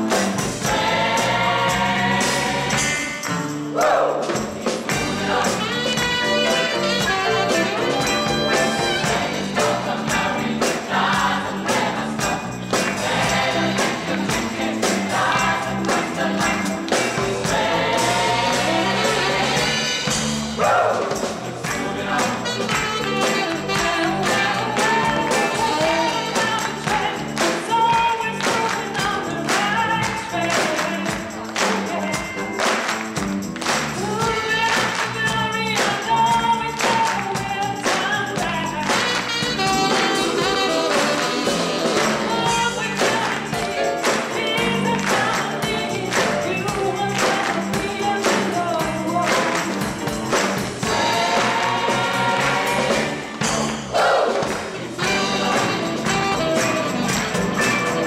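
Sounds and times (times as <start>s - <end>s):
drum kit: 0.0s - 58.0s
electric bass: 0.0s - 58.0s
mixed choir singing gospel: 0.0s - 58.0s.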